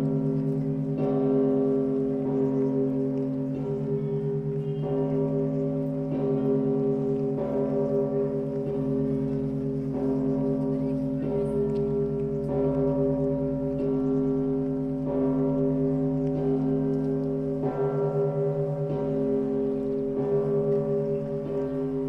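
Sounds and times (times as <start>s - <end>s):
bells ringing a peal: 0.0s - 22.0s.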